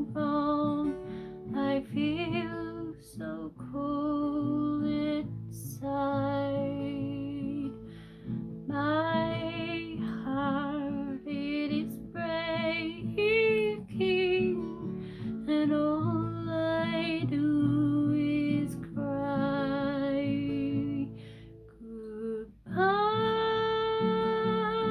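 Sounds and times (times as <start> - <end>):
acoustic guitar: 0.0 - 24.9
woman singing: 0.0 - 24.9.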